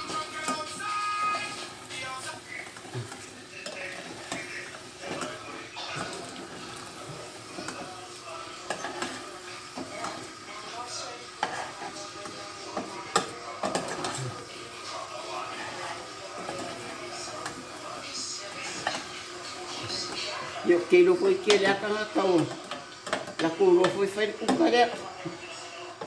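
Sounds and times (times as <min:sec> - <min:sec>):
utensil scraping a pan: 0:00.0 - 0:25.1
mince sizzling in a pan: 0:00.0 - 0:26.0.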